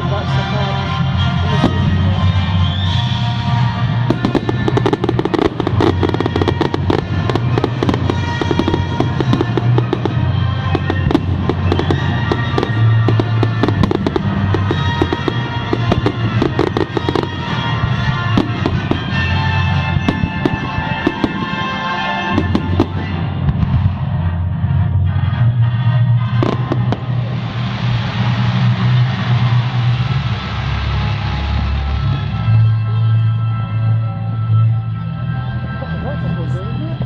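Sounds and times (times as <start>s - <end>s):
fireworks crackling and banging: 0.0s - 35.3s
loud music with bass: 0.0s - 37.0s.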